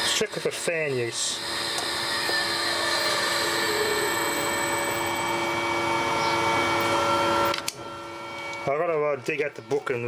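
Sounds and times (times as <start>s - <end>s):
electric fan air rushing: 0.0s - 10.0s
motor whine: 0.0s - 10.0s.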